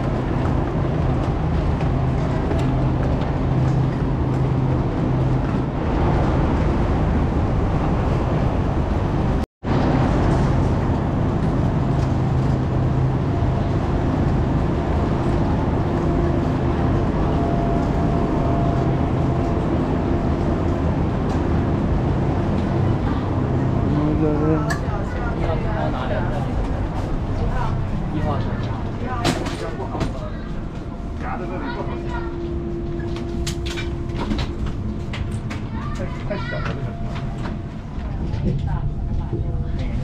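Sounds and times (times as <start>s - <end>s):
low hum of trains: 0.0s - 40.0s
passengers moving about: 0.0s - 40.0s.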